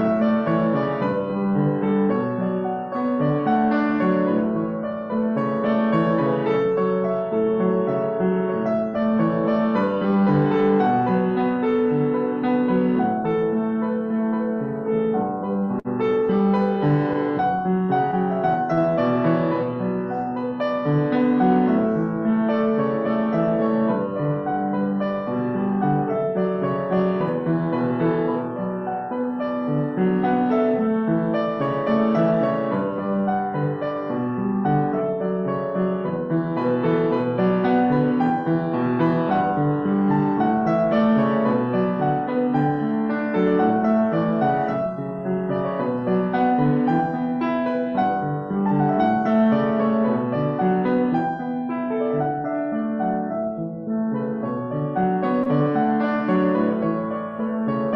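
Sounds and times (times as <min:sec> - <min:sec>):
solo piano playing: 0:00.0 - 0:57.9.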